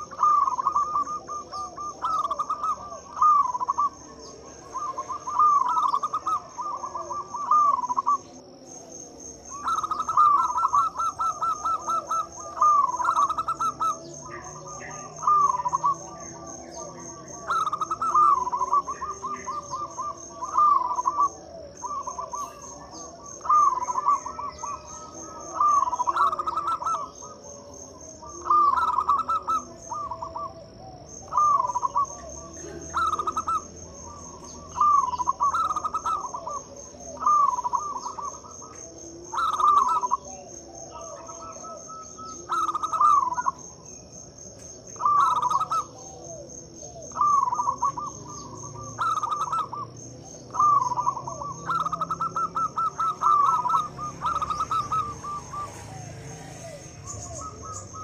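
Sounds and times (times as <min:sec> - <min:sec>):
cricket chirr: 0:00.0 - 0:58.0
dove cooing: 0:00.0 - 0:58.0.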